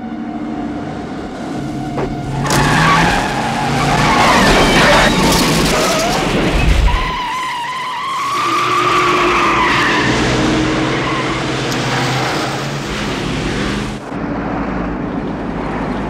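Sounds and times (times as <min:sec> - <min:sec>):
car engine running hard: 0:00.0 - 0:07.0, 0:08.0 - 0:16.0
car tyres squealing: 0:00.2 - 0:14.0.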